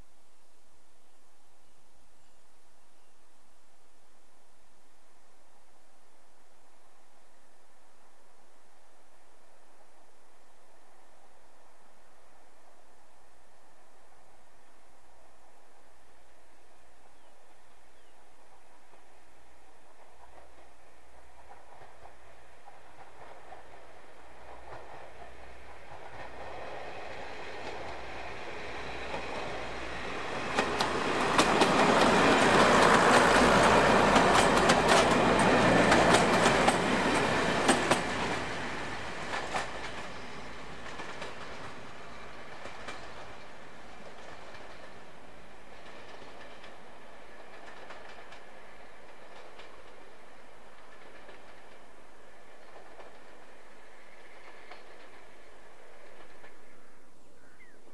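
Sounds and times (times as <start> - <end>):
train passing: 5.6 - 57.1.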